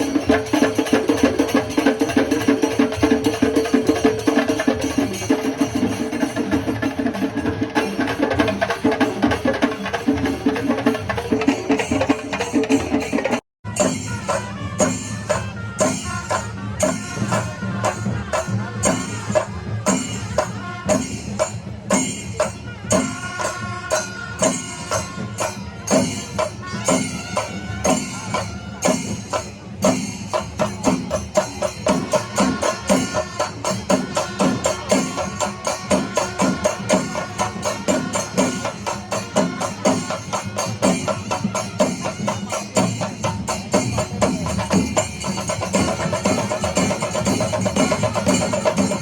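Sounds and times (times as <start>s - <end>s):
drums struck in steady rhythm: 0.0s - 49.0s
hand cymbals clashing: 0.0s - 49.0s.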